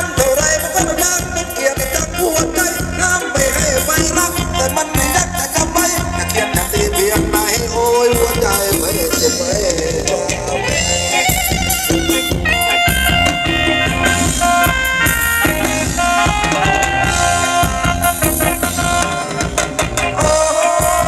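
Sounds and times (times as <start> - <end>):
drum kit beat: 0.0 - 21.0
held melody notes: 0.0 - 21.0.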